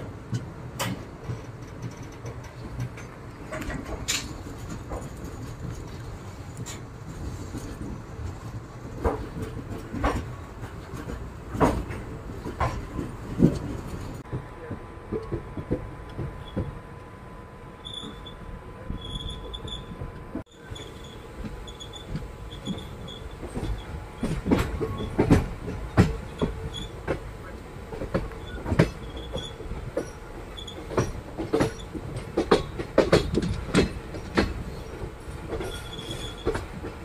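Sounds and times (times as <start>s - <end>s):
wheels clacking over rail joints: 0.0s - 17.2s, 17.8s - 37.0s
train wheels rumbling on track: 0.0s - 37.0s.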